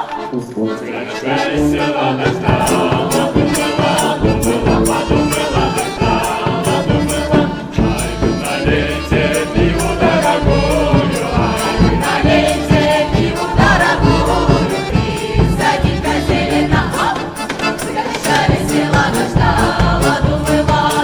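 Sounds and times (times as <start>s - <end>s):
tuba: 0.0s - 21.0s
women's choir singing: 0.0s - 21.0s
high percussion ticking: 2.3s - 21.0s
bass drum beat: 2.4s - 17.2s, 18.5s - 21.0s.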